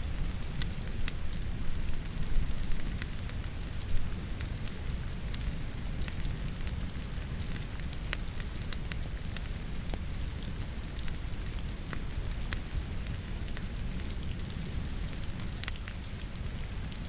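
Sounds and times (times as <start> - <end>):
logs crackling and popping in fireplace: 0.0 - 17.0
rain pattering: 0.0 - 17.0.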